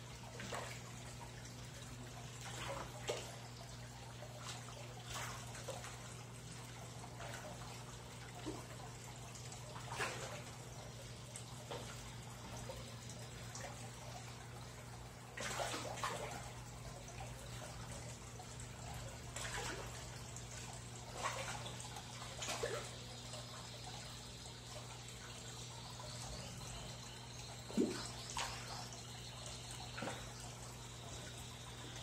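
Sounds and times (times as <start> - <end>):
steady low hum: 0.0 - 32.0
water running and trickling: 0.0 - 32.0.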